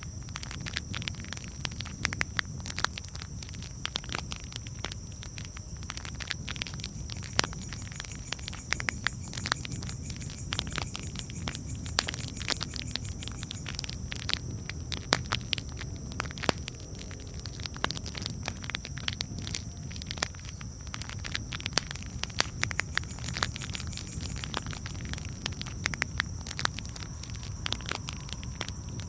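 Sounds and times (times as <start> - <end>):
campfire crackling: 0.4 - 29.0.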